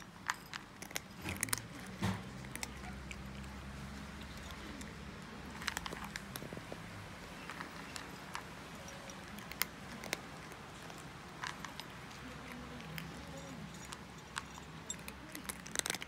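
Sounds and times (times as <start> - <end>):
cat crunching dry kibble: 0.0 - 16.0.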